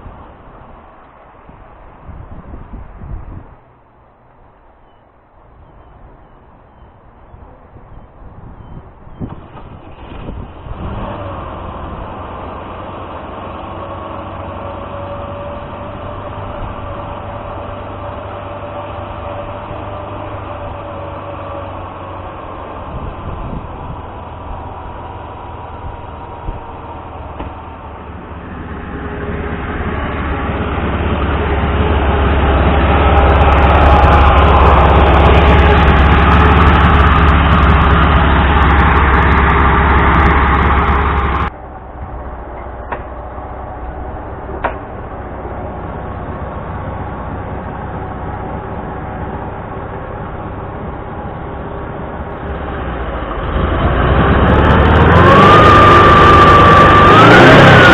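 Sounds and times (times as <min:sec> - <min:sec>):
car engine droning with whine: 0:00.0 - 0:57.9.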